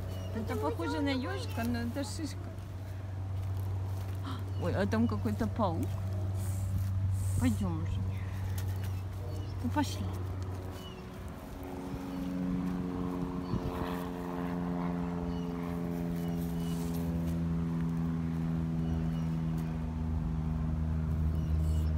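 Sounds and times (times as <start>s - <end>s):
engine droning: 0.0s - 21.9s.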